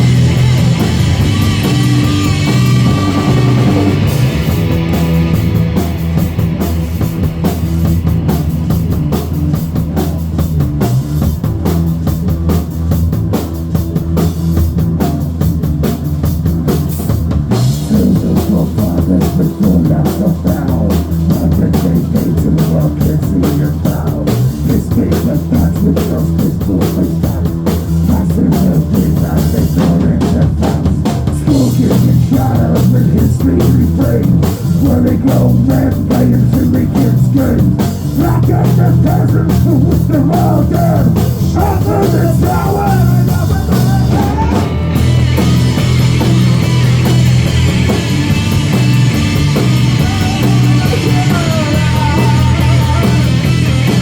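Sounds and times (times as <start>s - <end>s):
distorted bass and guitar: 0.0s - 54.0s
fast drum kit beat: 0.0s - 54.0s.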